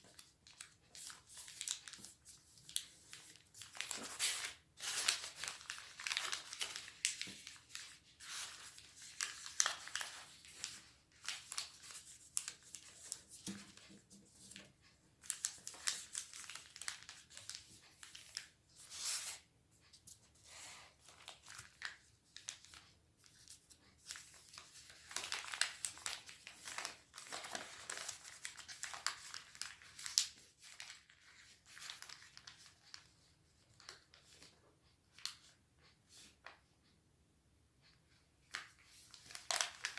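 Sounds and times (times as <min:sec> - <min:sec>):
paper crinkling and rustling: 0:00.0 - 0:36.6, 0:38.5 - 0:39.9.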